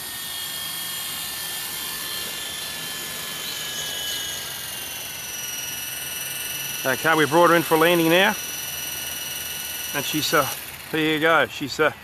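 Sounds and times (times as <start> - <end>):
model helicopter rotor whine: 0.0 - 12.0.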